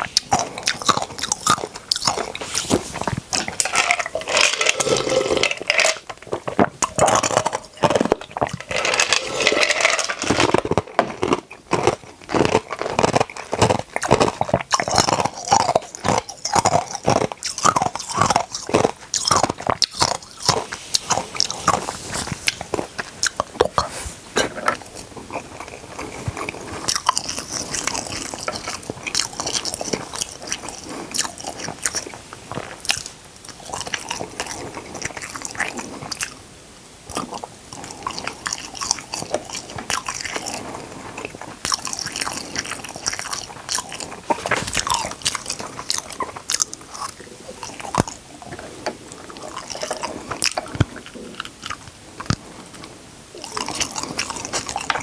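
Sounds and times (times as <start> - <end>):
crunching and chewing food: 0.0 - 55.0.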